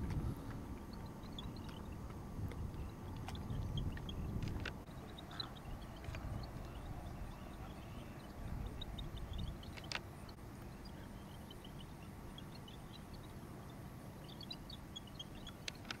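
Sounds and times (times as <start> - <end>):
steady low rumble: 0.0 - 15.7.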